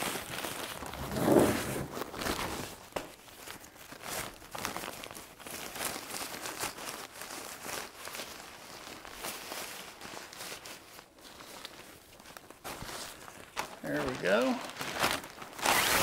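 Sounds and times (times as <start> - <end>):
bag rustling and crinkling: 0.0 - 16.0.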